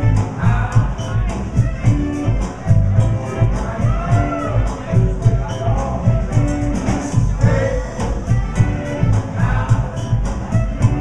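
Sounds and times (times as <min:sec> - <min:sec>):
band playing music: 0:00.0 - 0:11.0
steady drum beat: 0:00.0 - 0:11.0.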